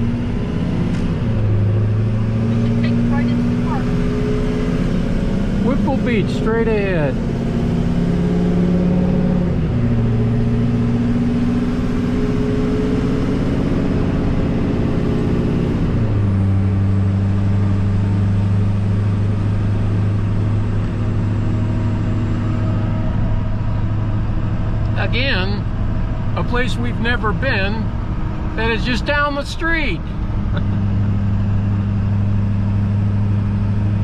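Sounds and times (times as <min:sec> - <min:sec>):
truck engine and road noise: 0:00.0 - 0:34.0.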